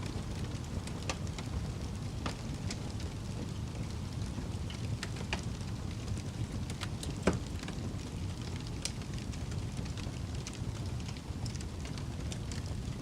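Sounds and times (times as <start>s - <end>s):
fire crackling in fireplace: 0.0s - 13.0s.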